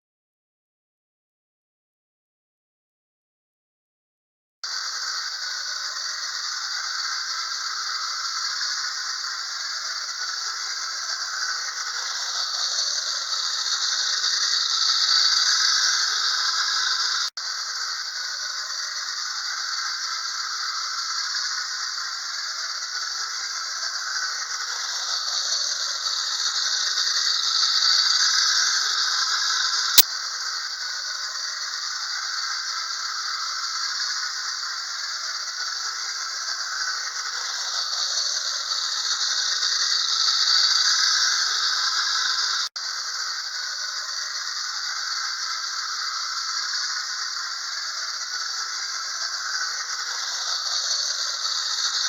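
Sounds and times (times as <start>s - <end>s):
clockwork toy train rattling: 4.7s - 52.0s.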